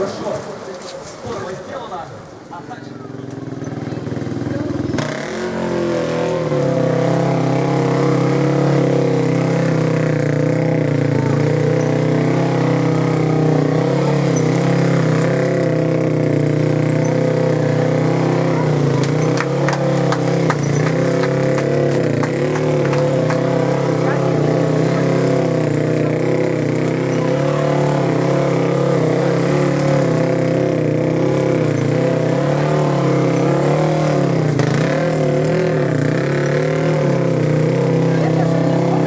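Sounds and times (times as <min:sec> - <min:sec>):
motorcycle engine running: 0:02.2 - 0:39.0.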